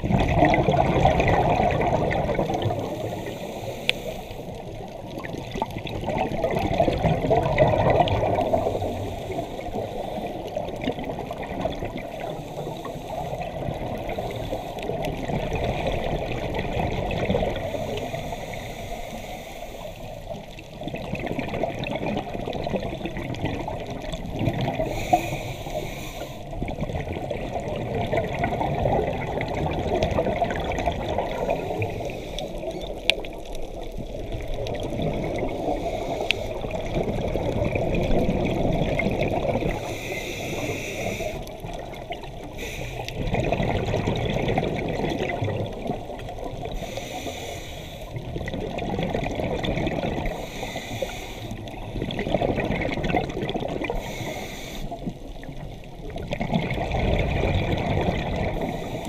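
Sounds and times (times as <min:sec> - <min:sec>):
underwater exhaled air bubbling: 0:00.0 - 0:59.0.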